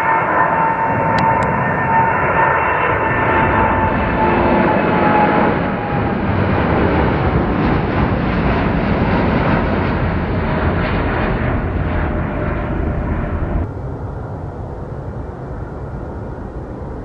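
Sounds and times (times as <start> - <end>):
high engine whine: 0.0 - 17.0
jet engines roaring: 0.0 - 17.0.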